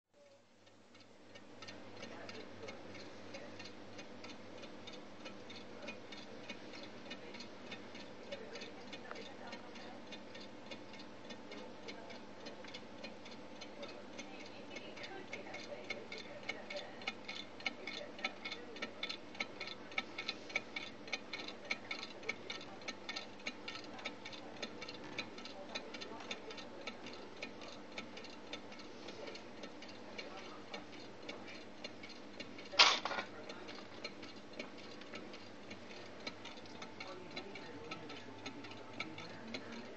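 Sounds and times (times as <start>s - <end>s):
stirling engine ticking: 0.9s - 39.9s.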